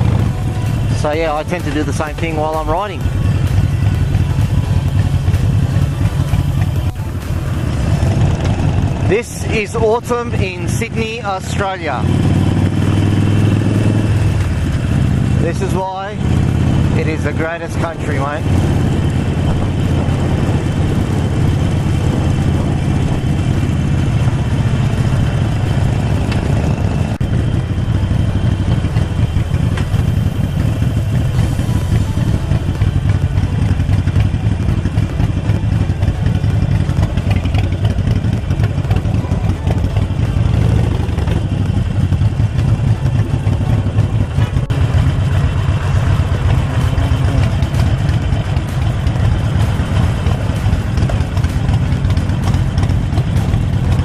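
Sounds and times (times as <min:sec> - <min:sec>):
motorcycle engine throbbing: 0:00.0 - 0:54.0.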